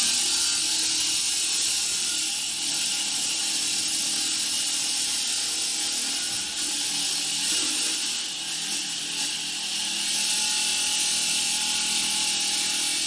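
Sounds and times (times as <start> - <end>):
wet saw cutting concrete: 0.0 - 13.0.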